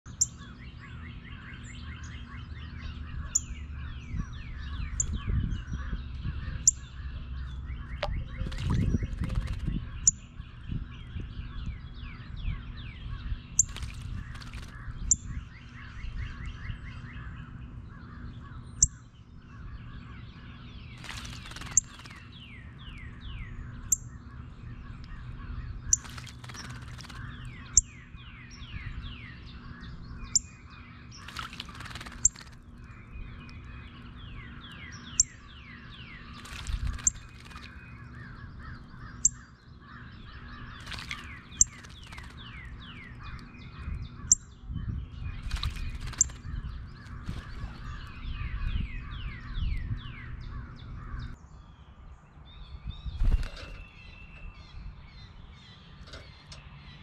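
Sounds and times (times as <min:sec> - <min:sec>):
songbirds singing: 0:00.0 - 0:57.0
steady low hum: 0:00.1 - 0:57.0.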